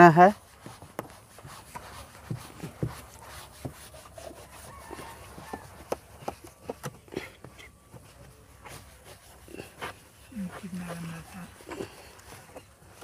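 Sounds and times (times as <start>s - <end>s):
sponge rubbing on plastic: 0.0s - 13.0s.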